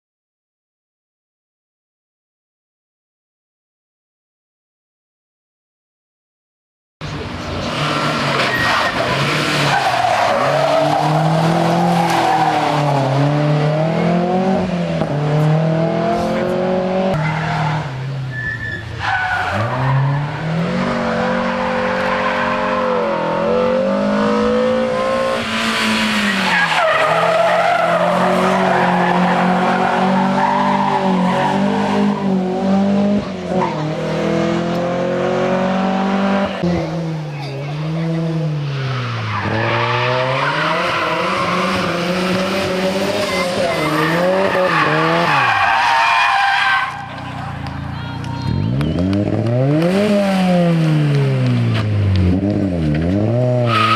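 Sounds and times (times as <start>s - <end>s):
rally car engine revving: 7.0s - 53.9s.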